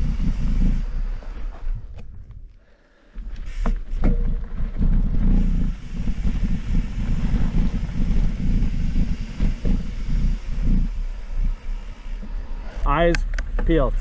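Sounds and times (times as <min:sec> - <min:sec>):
wind buffeting microphone: 0:00.0 - 0:02.6, 0:03.3 - 0:14.0.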